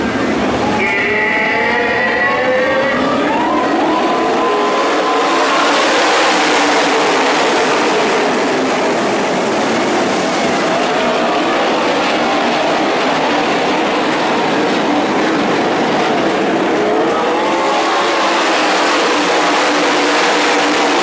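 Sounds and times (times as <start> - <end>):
sprint car engines racing: 0.0 - 21.0.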